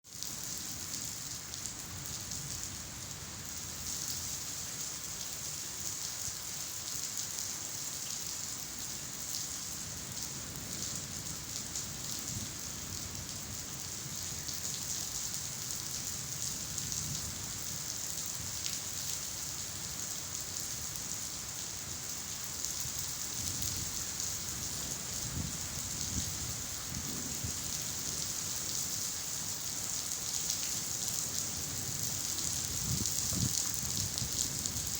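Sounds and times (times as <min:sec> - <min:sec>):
steady rainfall: 0:00.0 - 0:34.9.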